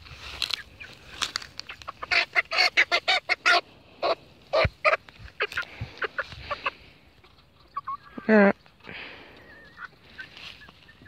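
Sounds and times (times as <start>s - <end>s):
chickens squawking: 0.3s - 11.0s.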